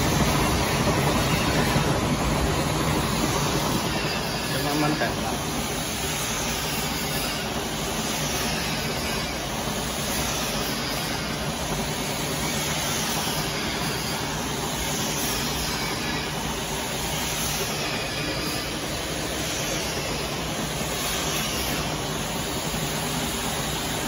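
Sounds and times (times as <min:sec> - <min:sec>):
steady hissing machine noise: 0:00.0 - 0:24.0.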